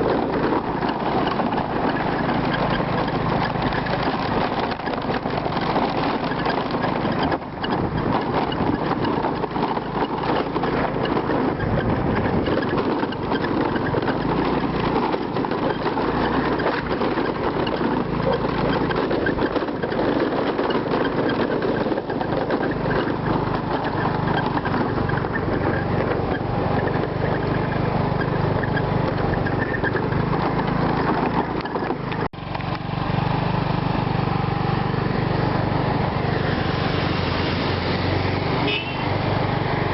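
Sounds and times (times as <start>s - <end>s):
motor engine running: 0.0s - 39.9s.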